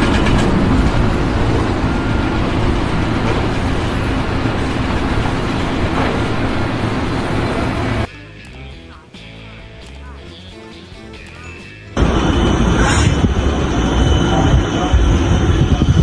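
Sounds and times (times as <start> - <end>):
large engine rumbling: 0.0 - 16.0.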